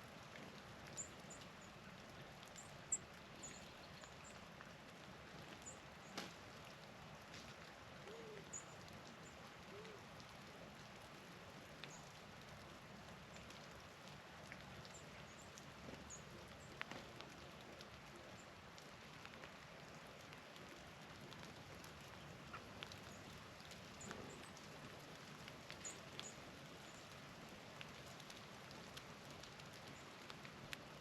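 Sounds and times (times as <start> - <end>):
soft steady hiss: 0.0 - 31.0.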